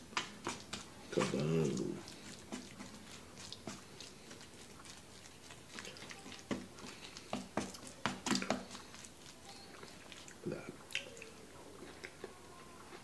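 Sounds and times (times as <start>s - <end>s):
wet chewing mouth clicks: 0.5s - 13.0s.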